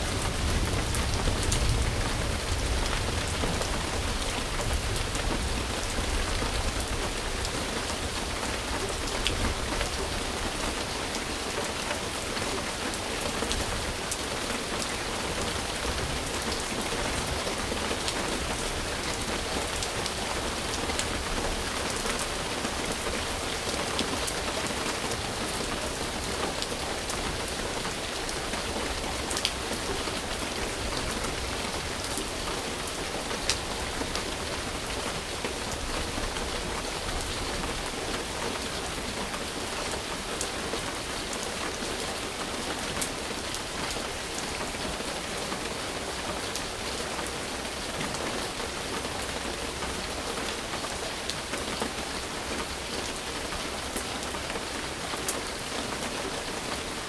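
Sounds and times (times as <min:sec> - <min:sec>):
rain hissing on a surface: 0:00.0 - 0:57.0.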